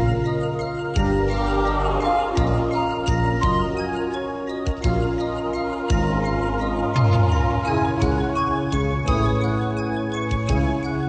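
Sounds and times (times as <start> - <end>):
chiming bell-like music with beat: 0.0 - 11.0.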